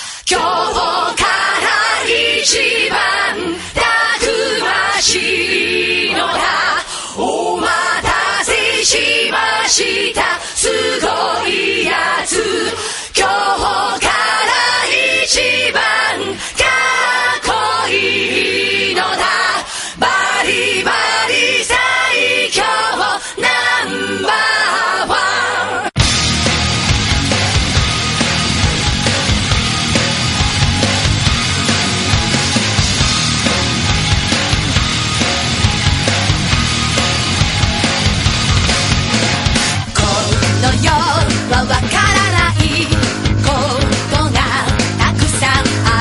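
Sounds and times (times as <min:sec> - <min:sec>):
choir-like singing voices: 0:00.0 - 0:26.6, 0:27.3 - 0:46.0.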